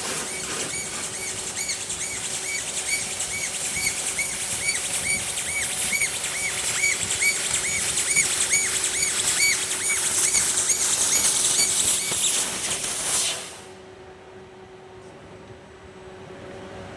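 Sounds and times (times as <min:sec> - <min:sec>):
cnc machine cutting steel hiss: 0:00.0 - 0:13.8.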